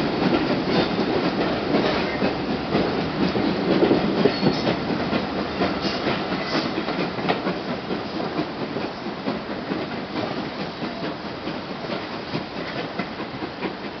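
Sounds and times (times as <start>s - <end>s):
train wheels clacking on rail joints: 0.0s - 14.0s.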